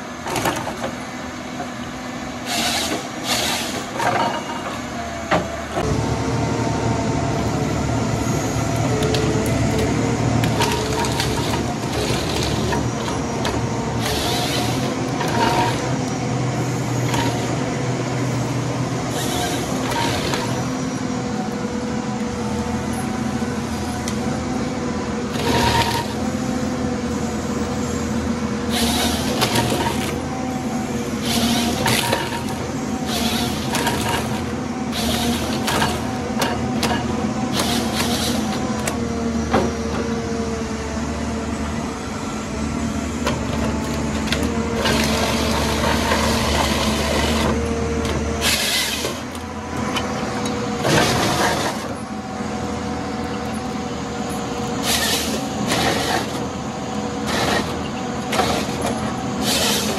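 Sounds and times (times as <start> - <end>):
harvester engine rumbling: 0.0 - 59.9.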